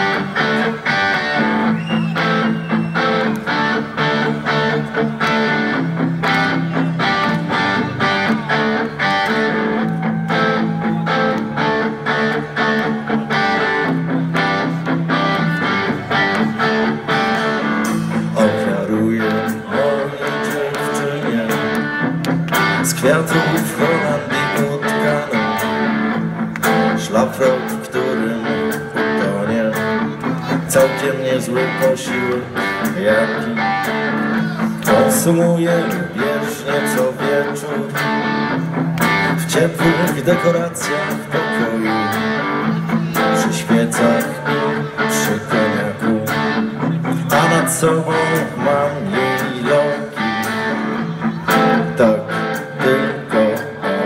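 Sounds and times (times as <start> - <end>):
bass line: 0.0 - 54.0
strummed electric guitar chords: 0.0 - 54.0.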